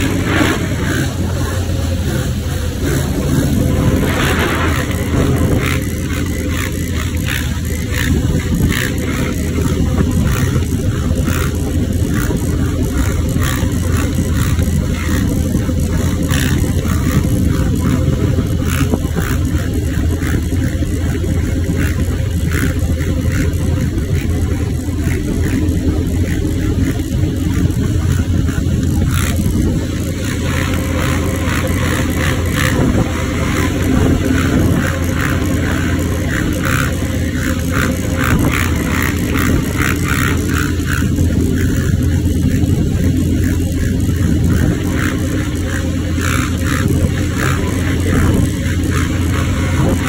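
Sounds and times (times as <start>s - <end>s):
quad bike engine running: 0.0s - 50.0s.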